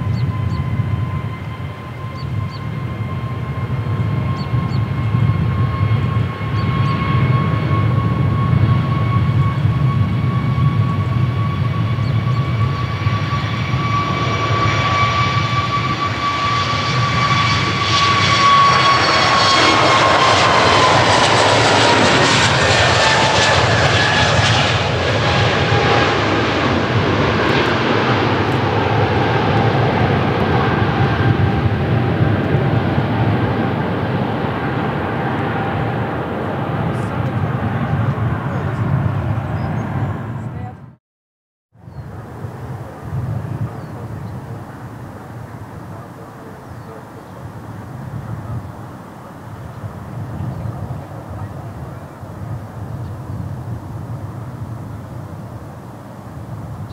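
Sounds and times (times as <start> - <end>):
jet engines at takeoff: 0.0 - 41.0, 41.8 - 56.9.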